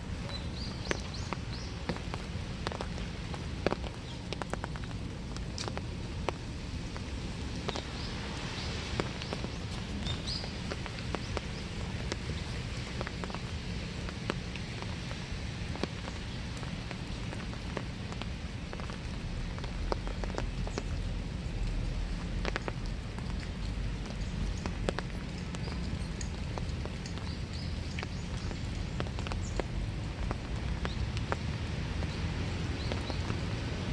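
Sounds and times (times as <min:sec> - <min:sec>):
raindrops ticking: 0:00.0 - 0:33.9
steady rain falling: 0:00.0 - 0:33.9.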